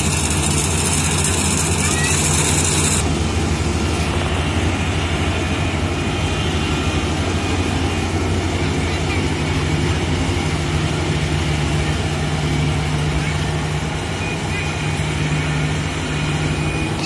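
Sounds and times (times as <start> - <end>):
combine harvester diesel engine: 0.0 - 17.0
machinery noise: 0.0 - 17.0.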